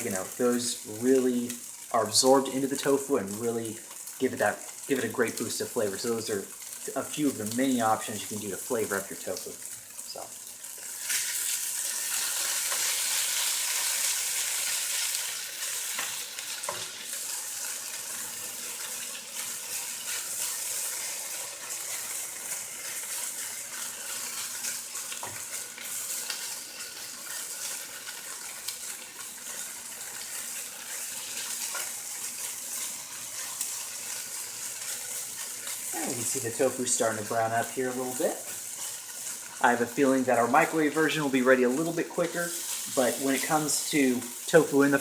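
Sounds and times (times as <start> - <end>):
tofu sizzling in a frying pan: 0.0 - 45.0.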